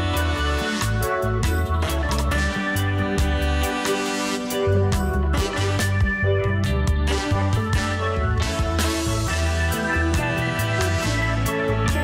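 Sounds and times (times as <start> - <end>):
background music with bass and drums: 0.0 - 12.0.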